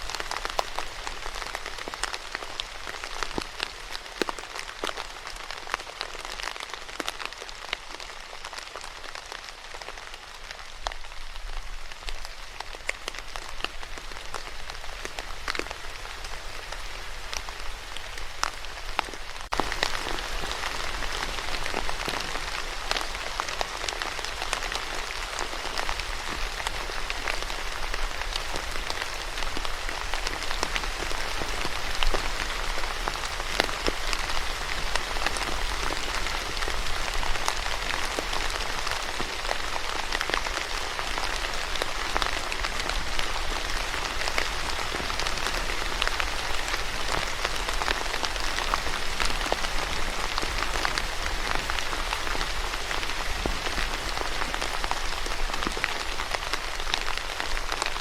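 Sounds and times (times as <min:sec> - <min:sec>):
raindrops ticking on a surface: 0:00.0 - 0:58.0
steady rain falling: 0:00.0 - 0:58.0.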